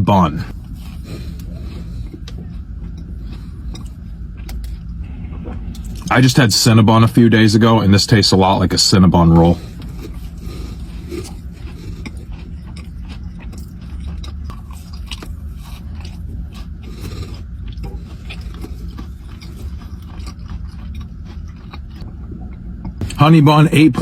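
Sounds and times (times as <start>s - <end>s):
low hum: 0.0s - 24.0s
person chewing a cookie: 0.5s - 6.2s, 9.2s - 23.2s.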